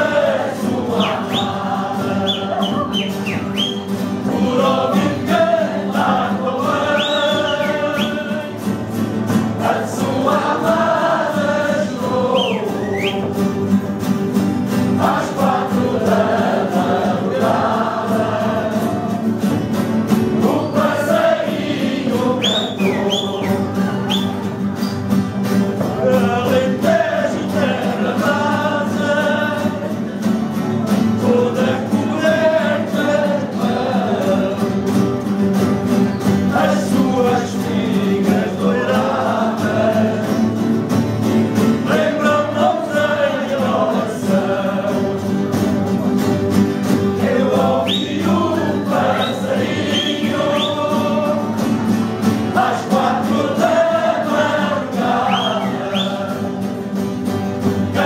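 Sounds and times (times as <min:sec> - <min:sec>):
acoustic guitars strumming: 0:00.0 - 0:58.0
group of voices singing: 0:00.0 - 0:58.0.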